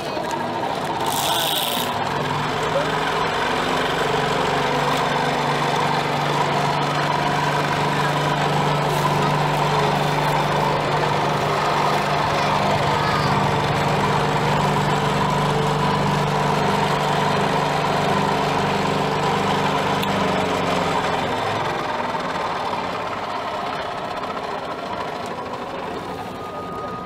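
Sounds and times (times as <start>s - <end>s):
cotton candy machine humming: 0.0s - 27.0s.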